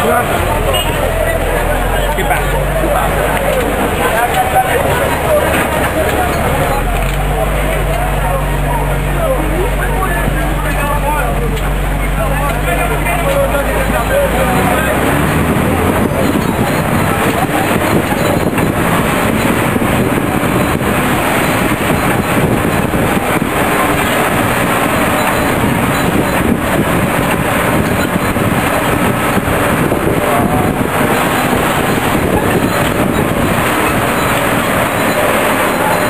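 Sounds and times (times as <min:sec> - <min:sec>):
road noise: 0:00.0 - 0:36.0
vehicle rattling: 0:00.0 - 0:36.0.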